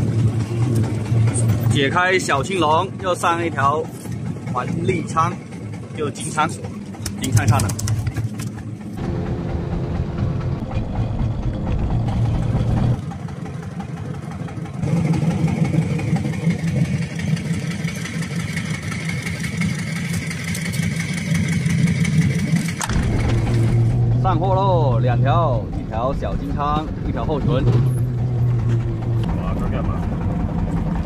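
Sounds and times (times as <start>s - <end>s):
boat engine idling: 0.0s - 31.0s.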